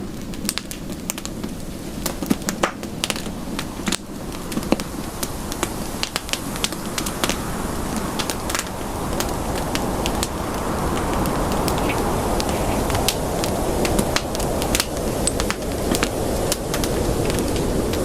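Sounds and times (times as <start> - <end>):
burning wood popping and snapping: 0.0 - 18.0
flames rushing: 0.0 - 18.0.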